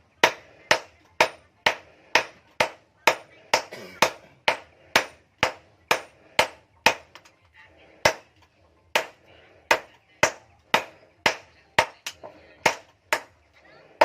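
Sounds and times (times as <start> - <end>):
hammer striking metal: 0.2 - 7.3, 8.9 - 13.3.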